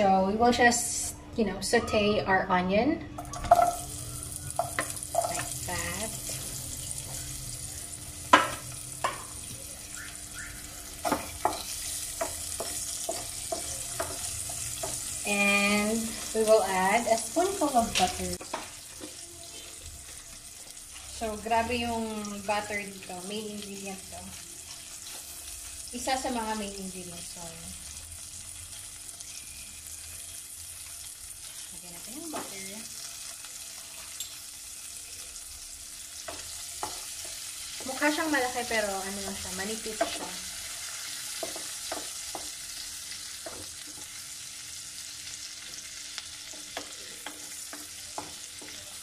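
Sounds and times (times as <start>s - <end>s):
onions sizzling in hot oil: 3.3s - 49.0s.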